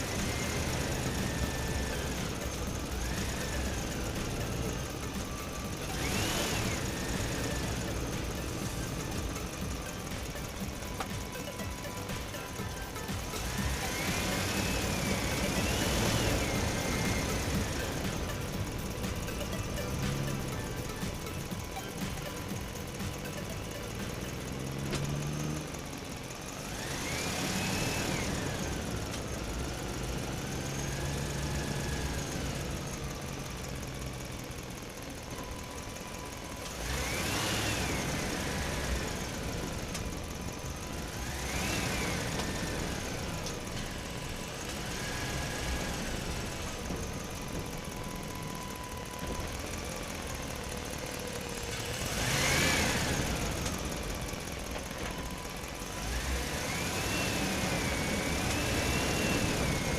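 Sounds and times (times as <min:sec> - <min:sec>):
small motor whining: 0:00.0 - 0:59.9.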